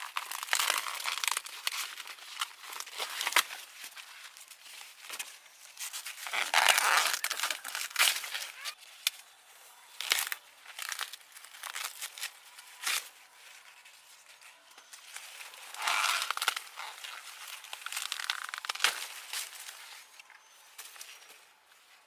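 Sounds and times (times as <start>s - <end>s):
dry corn leaves rustling and tearing: 0.0s - 9.2s, 9.8s - 22.0s.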